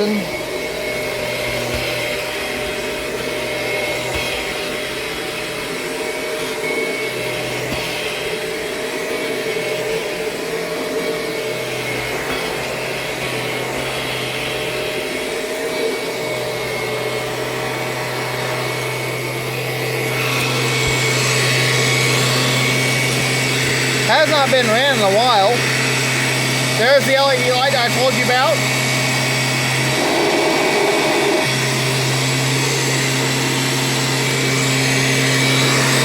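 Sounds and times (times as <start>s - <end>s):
upright vacuum motor hum and whine: 0.0s - 36.0s.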